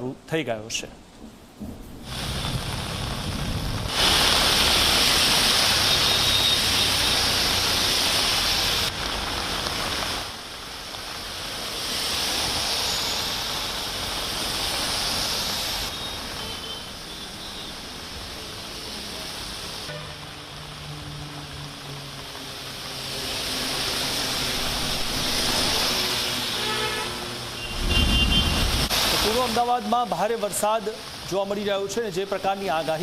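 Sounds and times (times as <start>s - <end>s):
heavy rain pouring: 1.6s - 33.0s.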